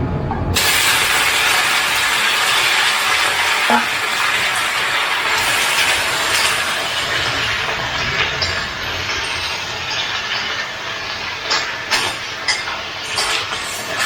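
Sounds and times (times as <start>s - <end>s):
food sizzling in hot oil: 0.6s - 14.0s.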